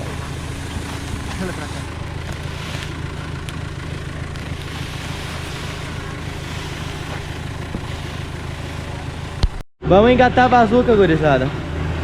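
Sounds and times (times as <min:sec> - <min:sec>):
tractor engine running: 0:00.0 - 0:09.6.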